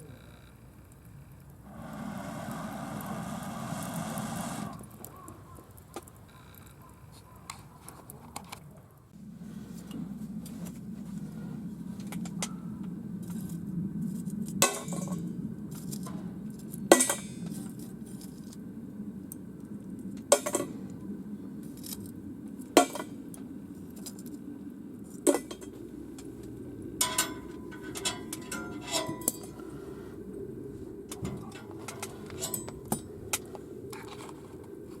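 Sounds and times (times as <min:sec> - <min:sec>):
wood fire burning in stove: 0:00.6 - 0:35.0.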